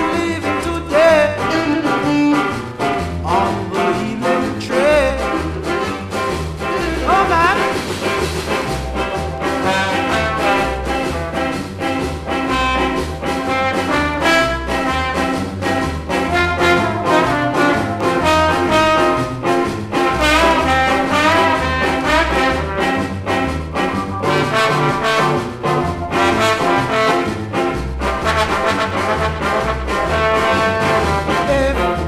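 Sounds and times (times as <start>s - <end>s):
ska music with brass solo: 0.0s - 32.0s.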